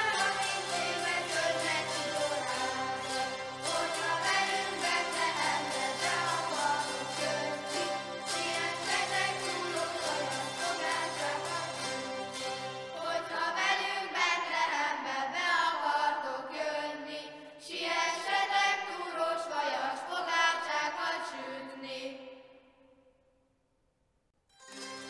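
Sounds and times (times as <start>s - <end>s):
children singing a cappella: 0.0s - 22.3s.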